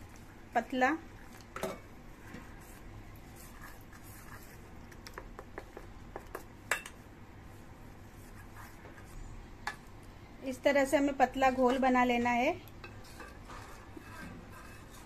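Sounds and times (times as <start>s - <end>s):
spoon stirring batter: 1.0s - 10.0s, 10.8s - 15.0s.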